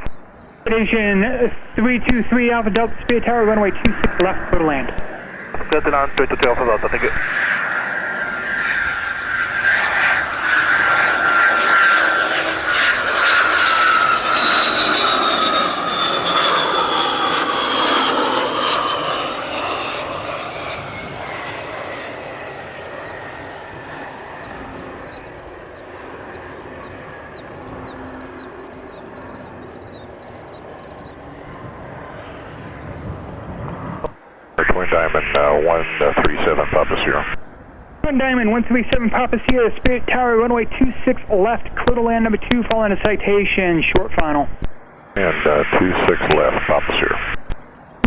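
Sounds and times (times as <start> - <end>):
jet turbine whine passing by: 0.0 - 48.0.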